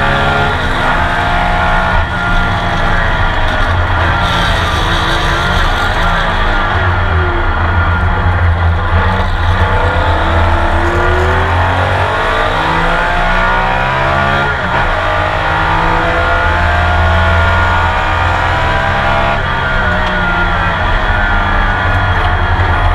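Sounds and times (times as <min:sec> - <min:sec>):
racing engine accelerating: 0:00.0 - 0:22.9.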